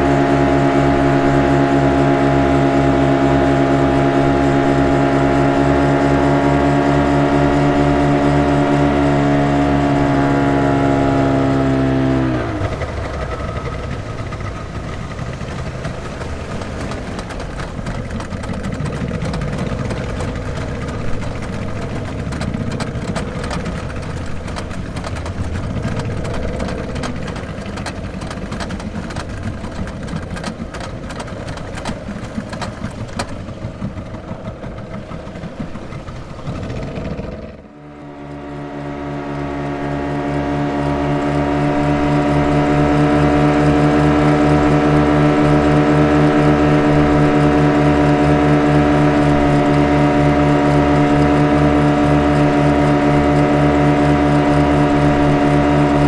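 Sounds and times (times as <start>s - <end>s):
speedboat engine rumble: 0.0s - 56.0s
steady engine hum: 0.0s - 56.0s.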